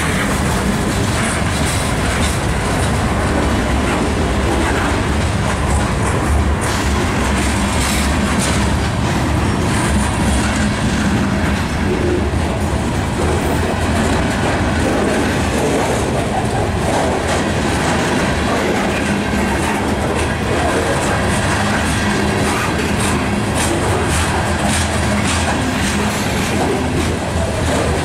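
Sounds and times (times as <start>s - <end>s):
train wheels rumbling on rail: 0.0s - 28.0s
wheels clattering over rail joints: 0.0s - 28.0s.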